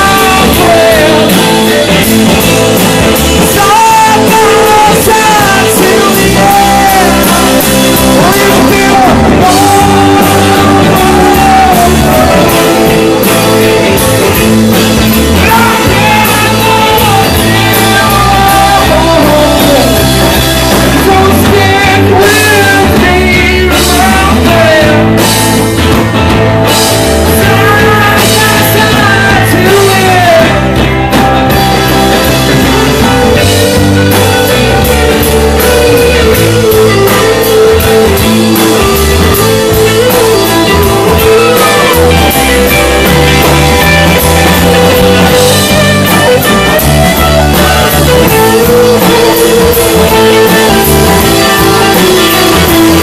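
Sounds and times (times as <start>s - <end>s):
person singing: 0.0s - 25.6s, 27.1s - 30.9s, 32.6s - 53.0s
drum kit: 0.0s - 53.0s
electric guitar: 0.0s - 53.0s.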